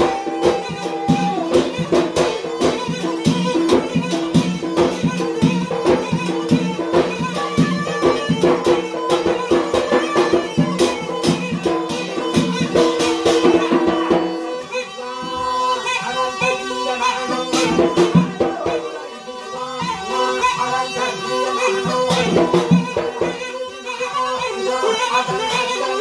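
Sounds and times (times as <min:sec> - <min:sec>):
fast struck percussion: 0:00.0 - 0:26.0
reed pipe melody: 0:00.0 - 0:26.0.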